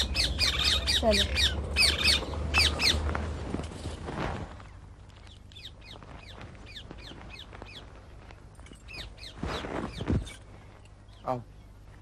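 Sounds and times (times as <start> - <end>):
birds chirping: 0.0 - 3.2, 4.6 - 12.0.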